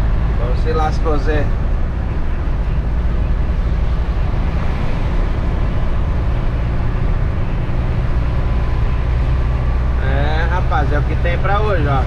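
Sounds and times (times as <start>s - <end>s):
diesel engine and road rumble: 0.0s - 12.0s.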